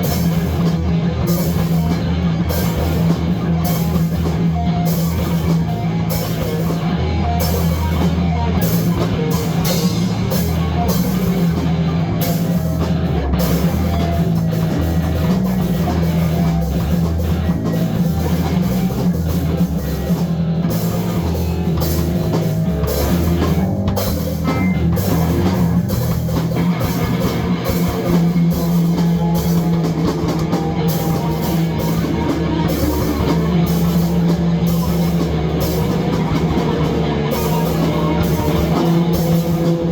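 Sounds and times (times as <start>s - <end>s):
heavy rock music: 0.0s - 39.9s.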